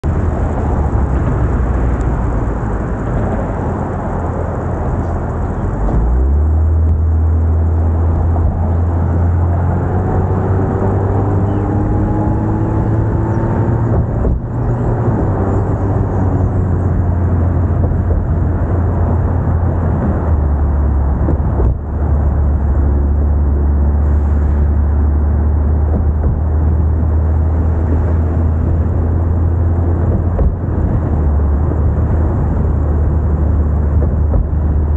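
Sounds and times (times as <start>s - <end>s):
deep engine drone: 0.0s - 34.9s
road and wind noise: 0.0s - 34.9s.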